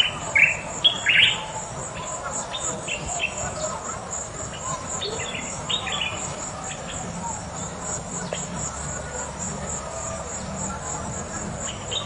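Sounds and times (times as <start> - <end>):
faint bird chirps: 0.0 - 12.0
insects trilling: 0.0 - 12.0
low background wash: 0.0 - 12.0.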